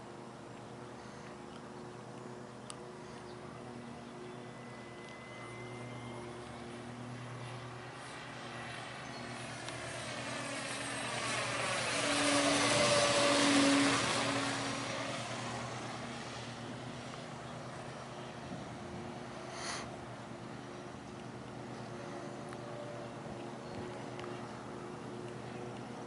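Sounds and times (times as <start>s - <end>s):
model airplane propeller buzzing: 0.0s - 26.0s.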